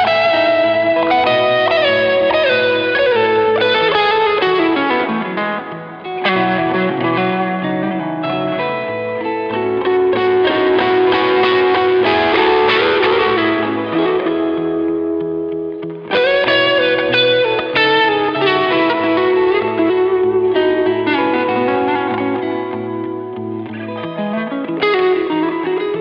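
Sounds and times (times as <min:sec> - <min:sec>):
electric guitar through an amp: 0:00.0 - 0:26.0.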